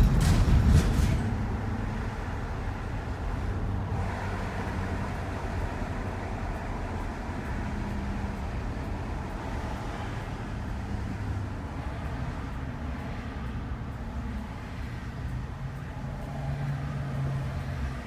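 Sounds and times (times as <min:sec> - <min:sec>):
van engine and tyre rumble: 0:00.0 - 0:18.0.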